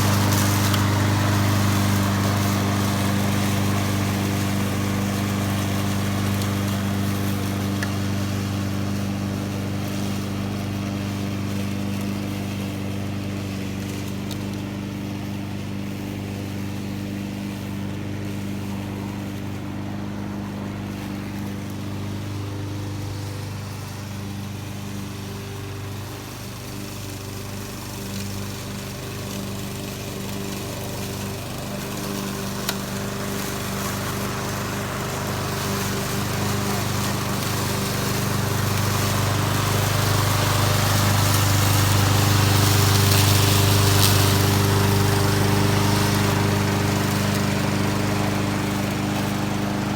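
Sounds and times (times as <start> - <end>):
lawn mower engine running: 0.0 - 49.9.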